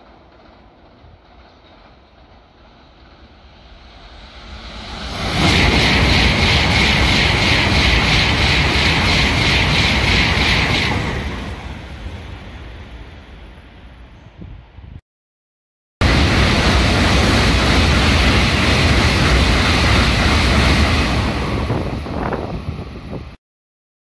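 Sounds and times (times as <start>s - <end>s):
rhythmic clatter of train cars: 0.0s - 14.2s, 16.0s - 23.3s
high-speed train passing: 0.0s - 15.0s, 16.0s - 23.4s.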